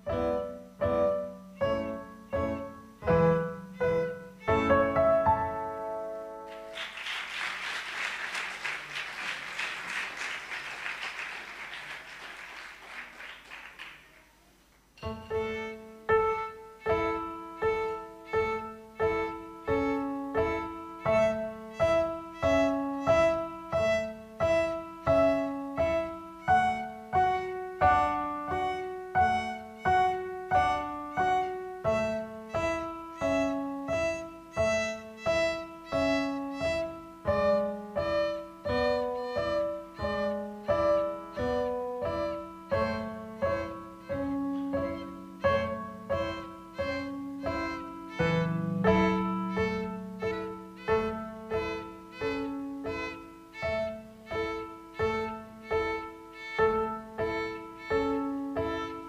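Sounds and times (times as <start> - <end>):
child playing violin melody: 0.0 - 6.4, 15.0 - 59.0
keyboard accompaniment: 0.0 - 7.0, 14.8 - 59.0.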